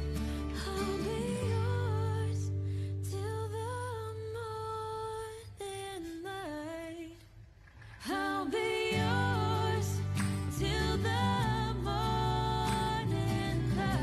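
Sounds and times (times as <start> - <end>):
pop love song: 0.0 - 14.0.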